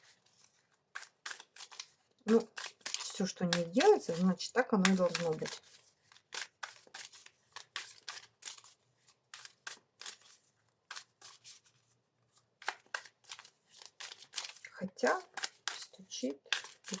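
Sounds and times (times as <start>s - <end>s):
cards clicking and snapping: 1.0s - 11.7s, 12.6s - 17.0s.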